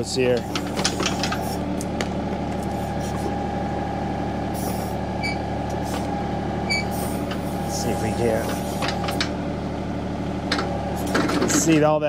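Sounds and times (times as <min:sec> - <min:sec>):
hydraulic whine: 0:00.0 - 0:11.9
tractor diesel engine hum: 0:00.0 - 0:12.0.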